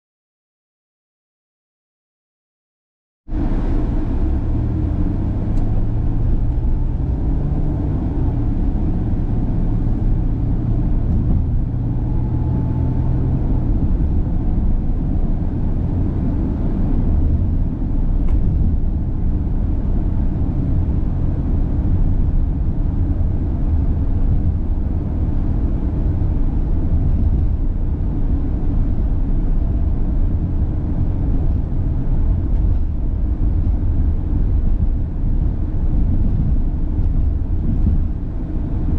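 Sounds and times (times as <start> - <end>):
car engine: 3.3 - 38.9
road rumble: 3.3 - 38.9.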